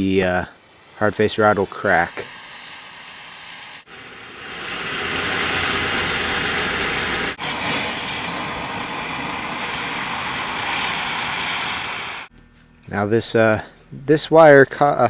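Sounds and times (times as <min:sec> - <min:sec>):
gas torch flame hissing: 0:00.0 - 0:12.3.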